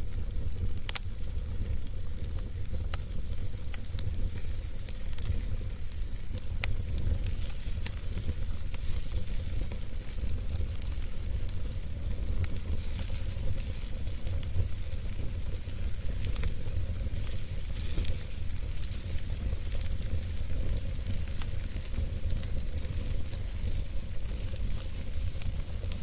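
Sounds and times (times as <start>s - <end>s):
fire crackling and popping: 0.0s - 26.0s
fire flames rumbling: 0.0s - 26.0s.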